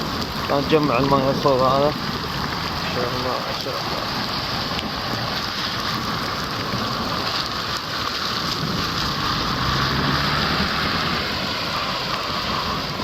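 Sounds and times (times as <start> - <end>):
rain pouring and splashing: 0.0 - 13.0.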